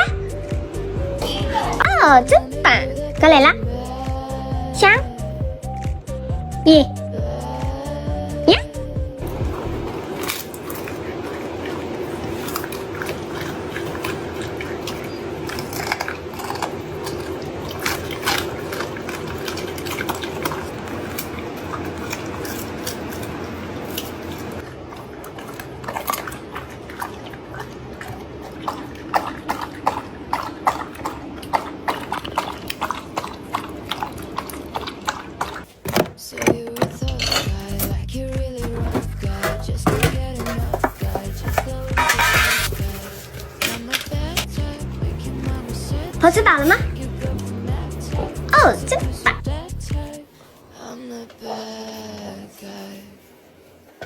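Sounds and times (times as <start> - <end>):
dog chewing food: 0.0 - 50.6.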